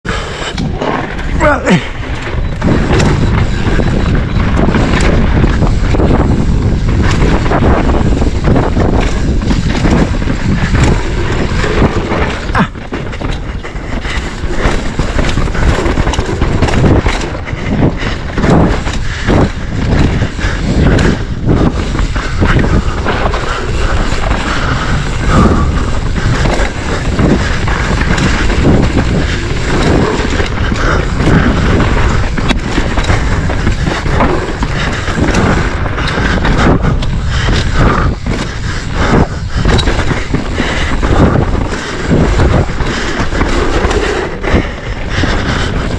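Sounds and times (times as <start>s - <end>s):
bike tyre noise on dirt: 0.0s - 45.9s
bike knocking and rattling: 0.1s - 45.9s
wind rushing on microphone: 0.1s - 45.9s.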